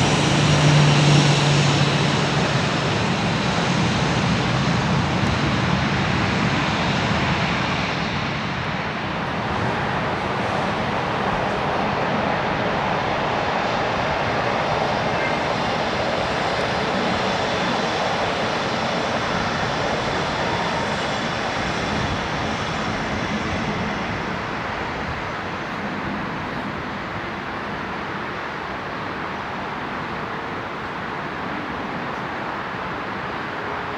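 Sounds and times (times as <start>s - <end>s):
jet engines rushing: 0.0s - 28.3s
faint high engine whine: 0.0s - 33.9s.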